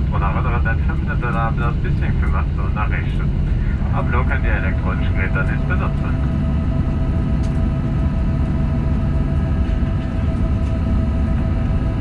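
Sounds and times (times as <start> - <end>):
aircraft cabin rumble: 0.0 - 12.0
engine hum: 0.0 - 12.0.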